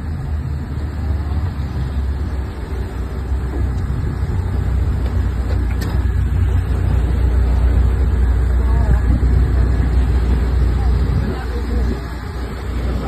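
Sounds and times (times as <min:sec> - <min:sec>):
boat engines rumbling: 0:00.0 - 0:13.0
churning water: 0:00.0 - 0:13.0
wind: 0:00.0 - 0:13.0.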